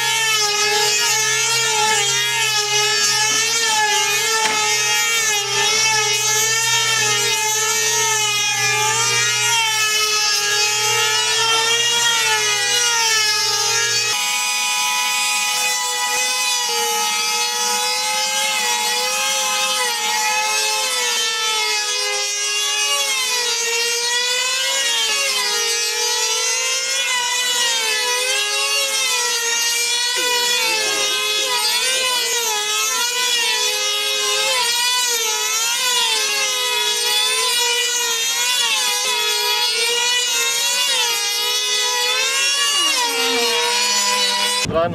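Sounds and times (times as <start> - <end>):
model plane engines screaming: 0.0 - 44.9.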